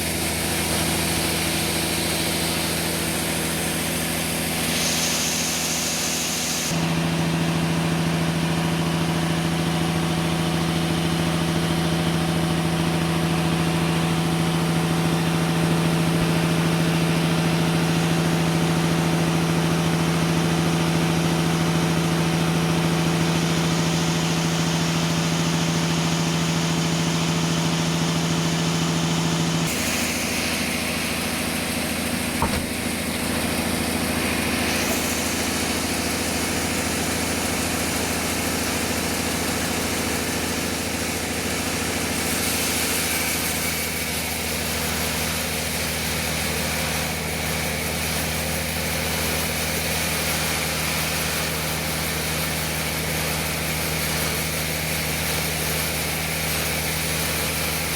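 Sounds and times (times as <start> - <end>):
sawmill machinery humming: 0.0 - 57.9.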